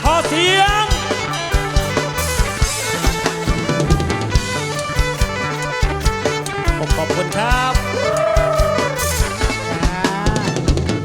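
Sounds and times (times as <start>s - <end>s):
bass notes: 0.0s - 11.0s
drum kit steady beat: 0.0s - 11.0s.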